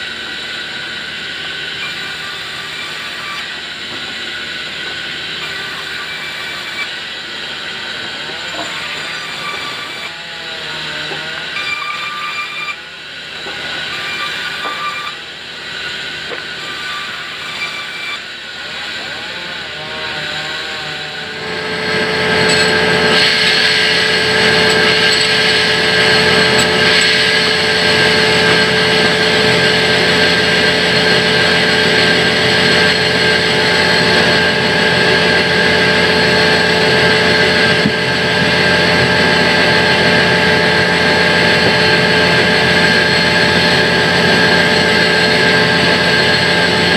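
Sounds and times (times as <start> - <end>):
band saw running: 0.0 - 46.9.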